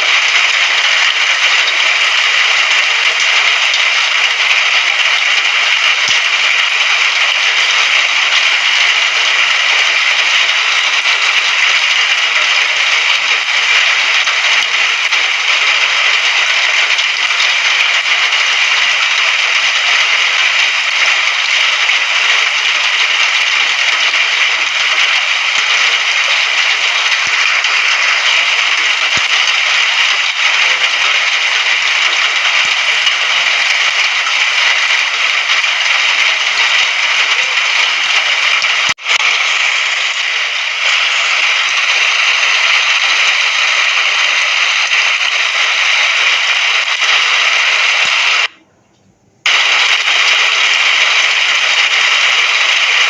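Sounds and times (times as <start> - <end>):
steady rain: 0.0 - 48.6, 49.4 - 53.0.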